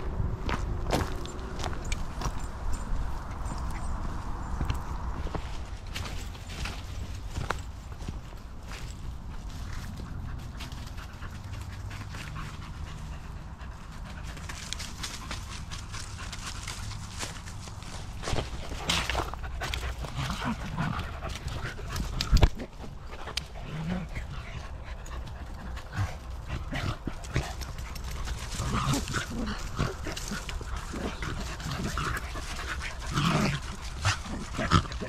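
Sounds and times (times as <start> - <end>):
footsteps: 0.0 - 35.0.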